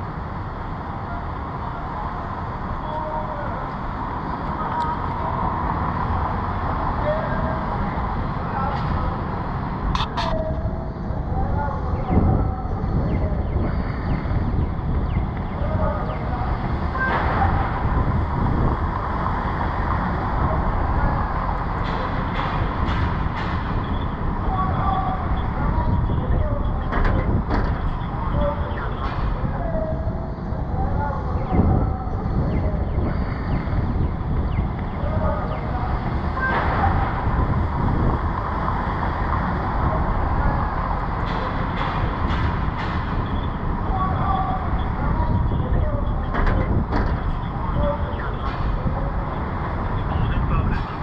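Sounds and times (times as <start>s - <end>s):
traffic rumble: 0.0s - 51.0s.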